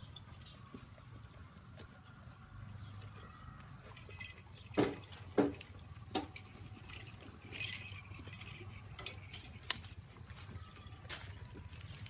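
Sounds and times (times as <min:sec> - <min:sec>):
goats feeding rustling leaves: 0:00.0 - 0:12.0.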